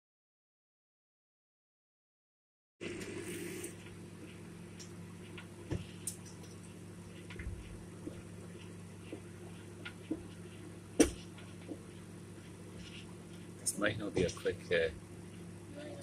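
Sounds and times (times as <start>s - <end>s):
microwave oven humming: 2.8s - 16.0s.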